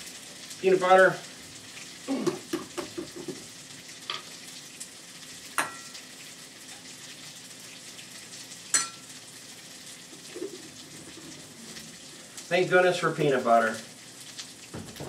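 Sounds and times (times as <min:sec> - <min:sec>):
faint steady hiss: 0:00.0 - 0:14.7.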